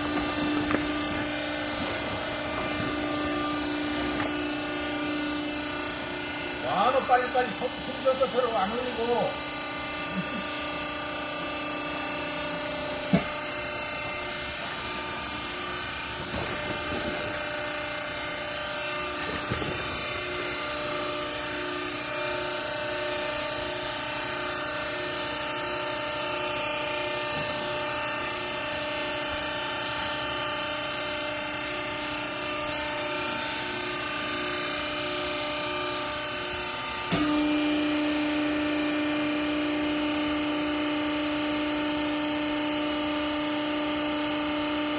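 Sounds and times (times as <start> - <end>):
hydraulic baler motor humming: 0.0 - 44.9.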